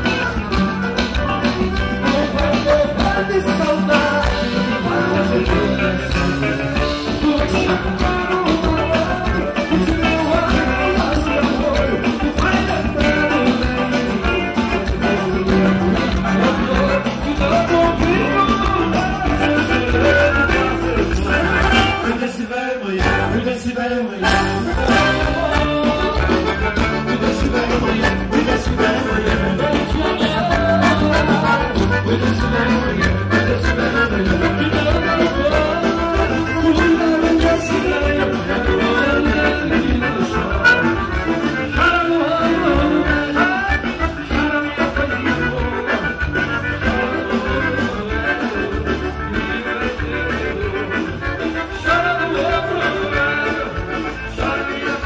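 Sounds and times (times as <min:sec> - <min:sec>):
live dance band music: 0:00.0 - 0:55.0
man singing: 0:00.0 - 0:55.0.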